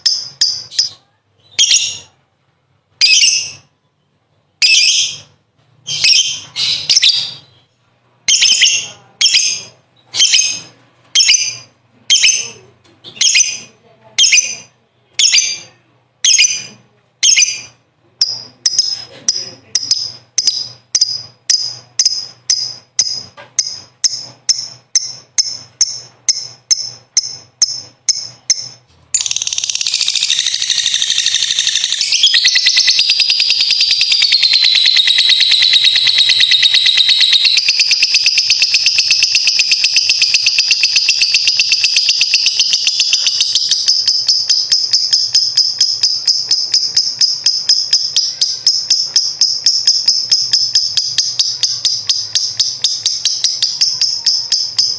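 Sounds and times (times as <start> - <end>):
lovebird chirping and trilling: 0.0 - 2.2, 2.9 - 3.7, 4.5 - 54.9.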